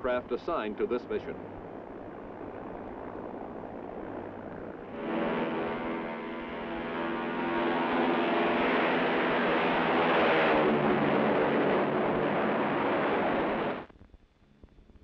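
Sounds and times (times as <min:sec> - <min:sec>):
propeller engines droning: 0:00.0 - 0:13.9.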